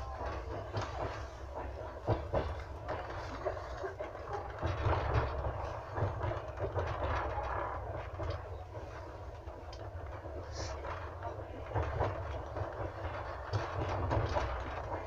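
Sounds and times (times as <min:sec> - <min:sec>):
train low rumble: 0:00.0 - 0:15.0
wheels knocking on rails: 0:00.0 - 0:15.0.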